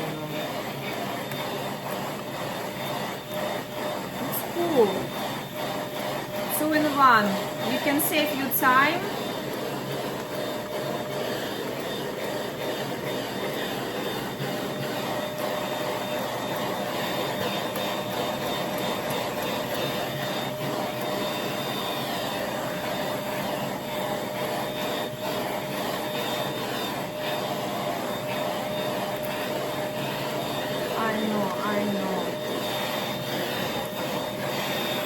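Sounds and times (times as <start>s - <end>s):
pet vacuum air rush and whine: 0.0s - 35.0s.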